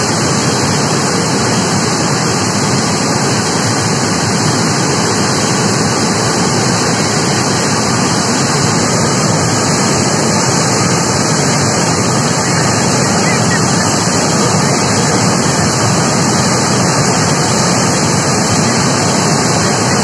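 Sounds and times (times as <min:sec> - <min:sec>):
floodwater rushing roar: 0:00.0 - 0:20.0.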